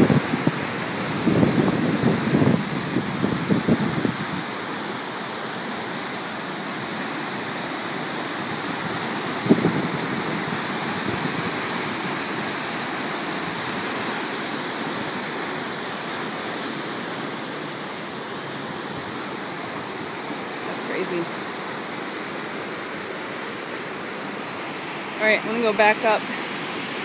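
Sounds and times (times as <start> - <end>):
water rushing over a weir: 0.0 - 27.0.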